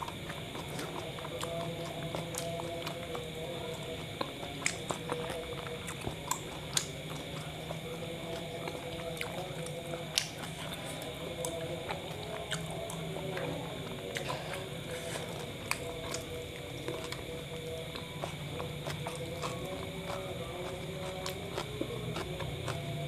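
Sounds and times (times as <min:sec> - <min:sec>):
steady background hum: 0:00.0 - 0:23.0
wet chewing with mouth clicks: 0:00.0 - 0:23.0.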